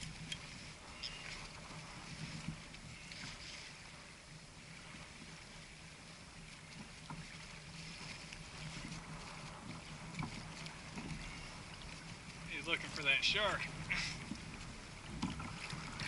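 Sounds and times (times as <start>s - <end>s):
water and wind hiss: 0.0s - 16.0s.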